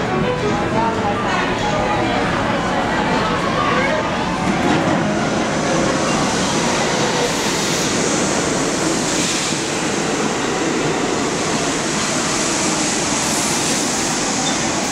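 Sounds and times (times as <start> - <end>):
subway train wheels on rails: 0.0 - 14.9.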